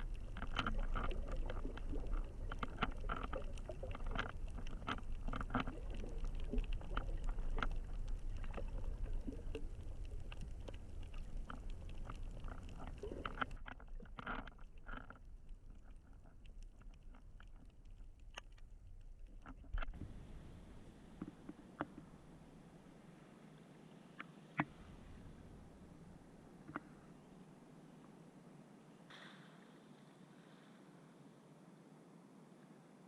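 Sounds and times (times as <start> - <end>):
muffled underwater rumble: 0.0 - 28.0
small underwater clicks and crackles: 0.0 - 32.7.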